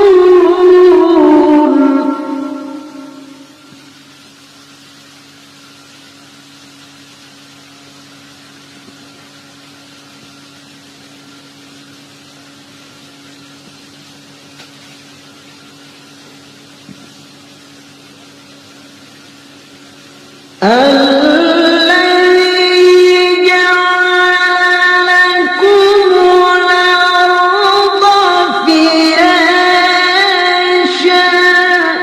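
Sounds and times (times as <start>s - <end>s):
low constant hum: 0.0s - 32.0s
steady hiss: 0.0s - 32.0s.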